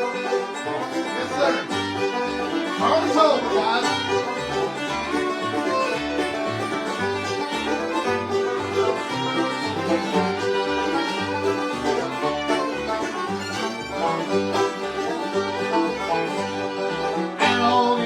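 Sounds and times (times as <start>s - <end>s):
bluegrass band playing: 0.0s - 18.0s
fiddle: 0.0s - 18.0s.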